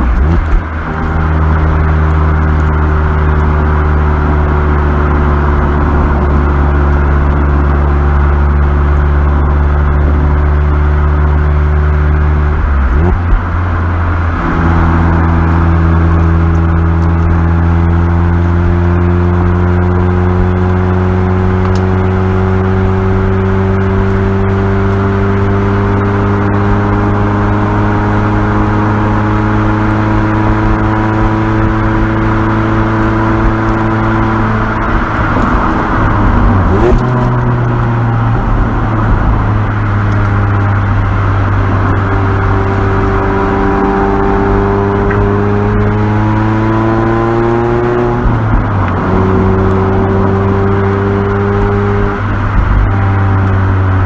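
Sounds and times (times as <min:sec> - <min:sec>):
car engine exhaust note: 0:00.0 - 0:54.0.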